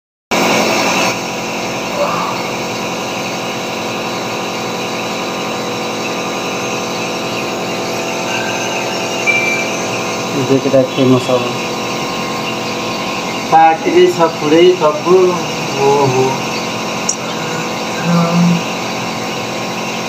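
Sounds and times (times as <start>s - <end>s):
electric motor humming: 0.5s - 20.0s.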